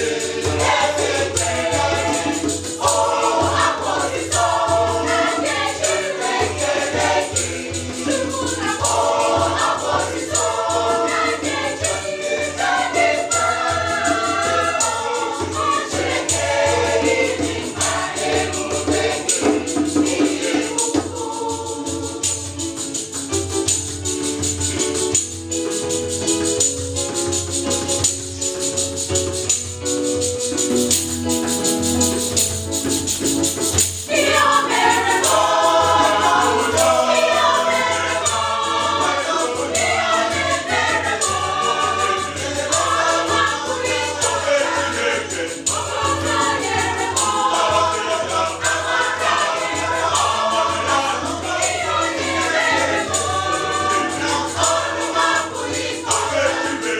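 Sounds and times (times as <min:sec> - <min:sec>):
gospel choir singing in harmony: 0:00.0 - 0:56.9
hand drum: 0:00.0 - 0:56.9
shaken percussion: 0:00.0 - 0:56.9.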